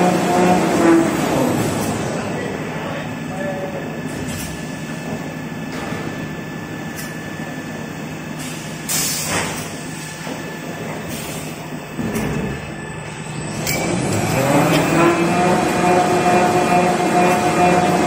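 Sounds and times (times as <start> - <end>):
machine rollers rumbling and humming: 0.0 - 18.0.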